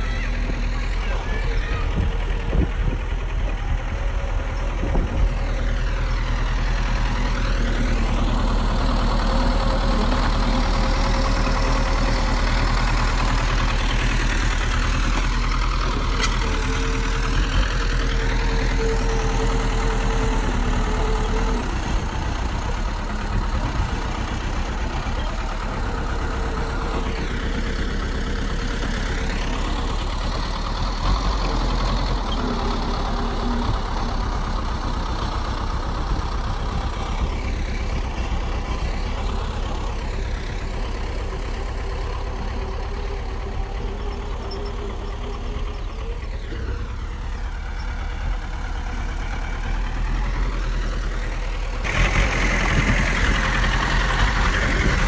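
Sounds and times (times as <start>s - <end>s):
bulldozer diesel engine rumbling: 0.0s - 55.0s.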